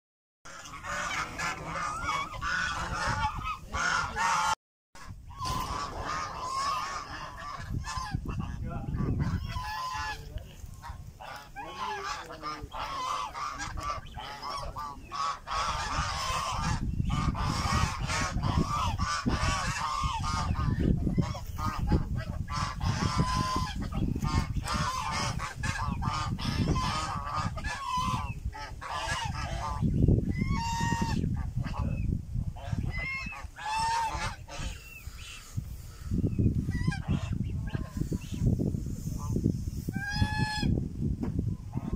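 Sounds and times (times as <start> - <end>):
geese honking: 0.5 - 40.8.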